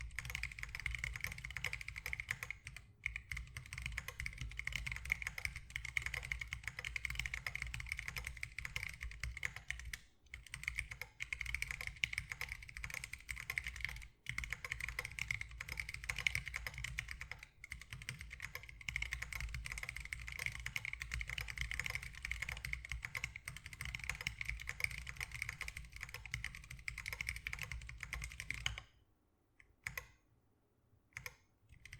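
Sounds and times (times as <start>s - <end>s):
mechanical keyboard typing: 0.0s - 28.9s, 29.8s - 30.1s, 31.2s - 31.9s.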